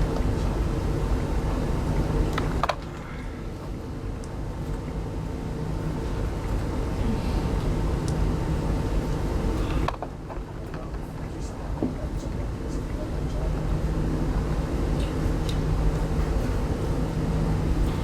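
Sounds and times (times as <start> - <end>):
train coach low hum: 0.0 - 18.0.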